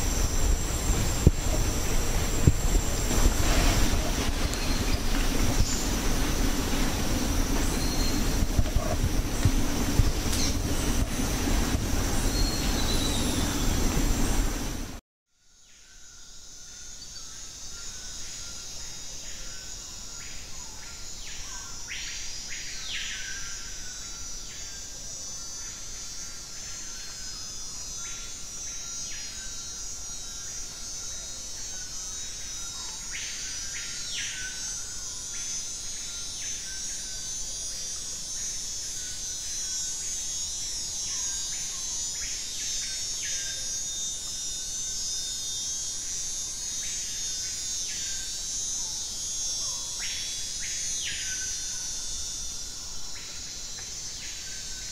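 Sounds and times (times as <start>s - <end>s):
drawn-out insect calls: 0.0s - 54.9s
insect buzzing drone: 0.0s - 54.9s
insect chirping calls: 0.0s - 54.9s.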